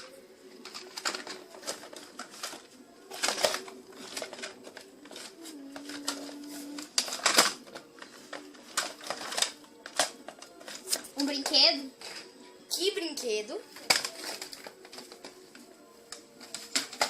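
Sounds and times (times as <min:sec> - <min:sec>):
toy handled clicks and rustles: 0:00.0 - 0:12.3, 0:13.7 - 0:17.0.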